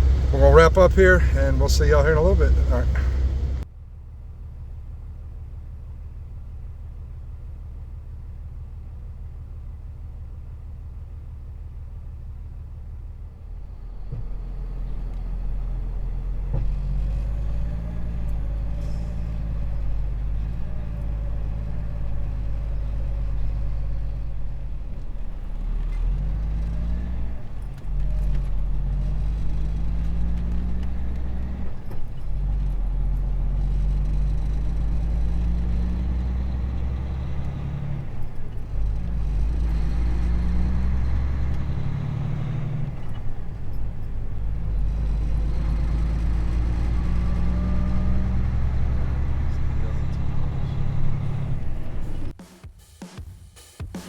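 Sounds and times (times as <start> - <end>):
truck diesel engine accelerating: 0.0 - 52.4.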